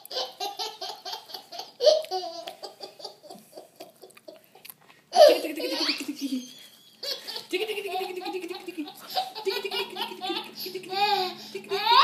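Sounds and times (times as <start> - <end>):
toddler giggling: 0.0 - 4.6, 5.2 - 12.0.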